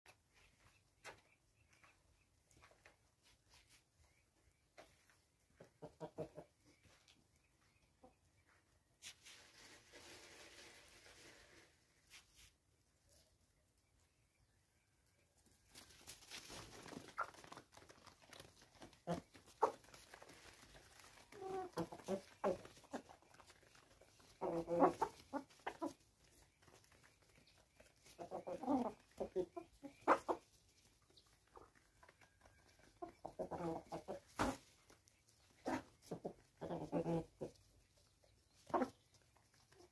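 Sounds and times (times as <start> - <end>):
chickens clucking: 0.1 - 11.3, 13.1 - 39.9.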